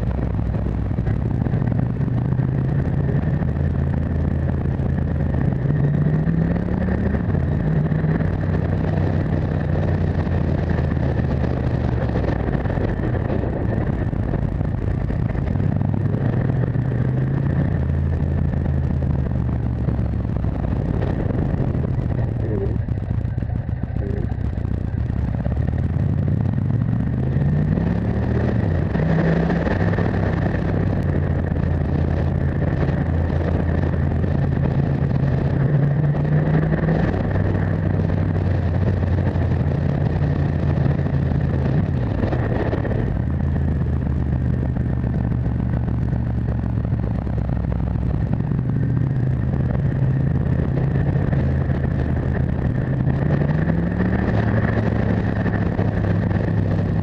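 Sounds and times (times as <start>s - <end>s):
motorcycle engine running: 0.0s - 57.0s
road noise: 0.0s - 57.0s
wind noise: 0.0s - 57.0s.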